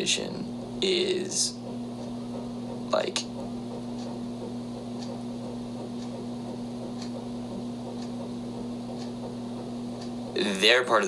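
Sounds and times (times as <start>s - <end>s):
low hum: 0.0s - 11.0s
clock ticking faintly: 2.0s - 11.0s.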